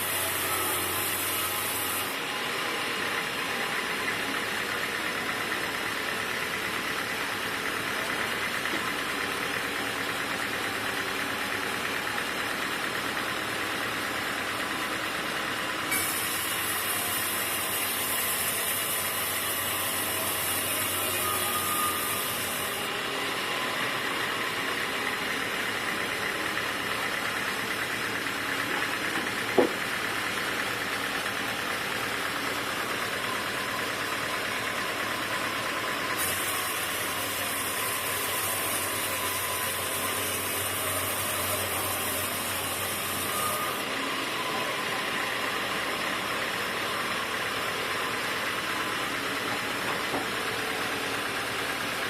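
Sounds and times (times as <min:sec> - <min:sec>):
sawmill machinery running: 0:00.0 - 0:52.0.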